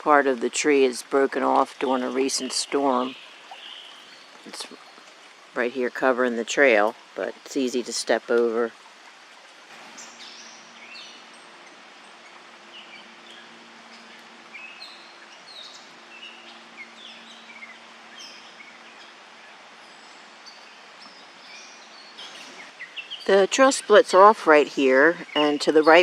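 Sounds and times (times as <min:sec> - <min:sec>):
woodland birds singing and chirping: 0:00.0 - 0:08.7, 0:09.7 - 0:26.0
steady background hiss: 0:00.0 - 0:26.0.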